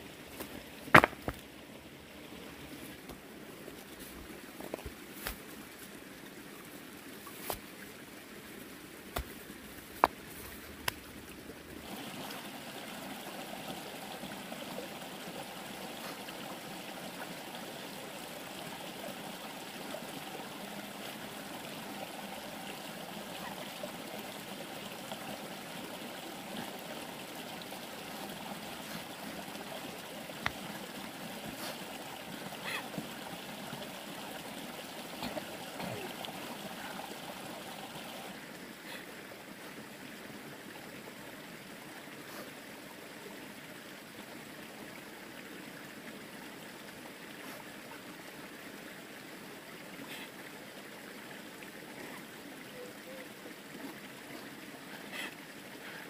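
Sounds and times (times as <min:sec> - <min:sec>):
flowing trickling water: 0:00.0 - 0:56.0.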